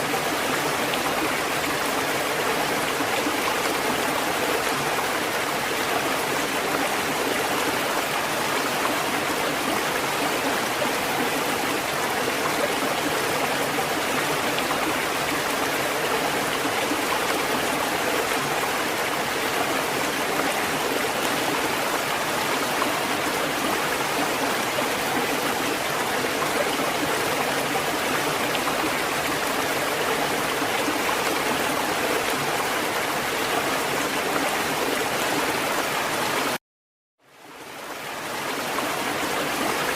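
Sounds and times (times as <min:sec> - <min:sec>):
rushing water: 0:00.0 - 0:36.6, 0:37.2 - 0:39.9.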